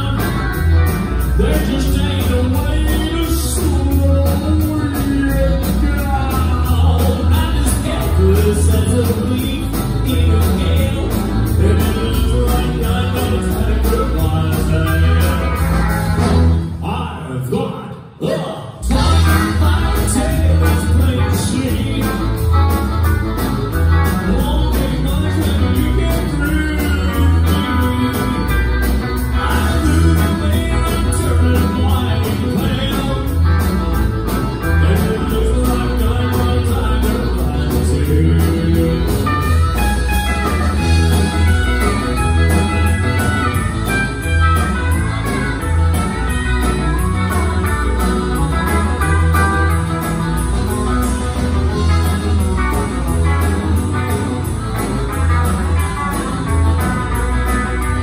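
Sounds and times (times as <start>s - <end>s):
accordion: 0.0s - 16.7s, 18.9s - 58.0s
drum kit: 0.0s - 17.2s, 18.3s - 58.0s
guitar: 0.0s - 58.0s
keyboards: 0.0s - 58.0s.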